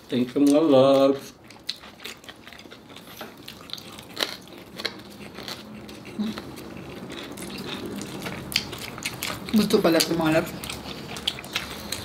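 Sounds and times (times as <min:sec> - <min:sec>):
crispy pork being chewed: 0:00.0 - 0:12.0.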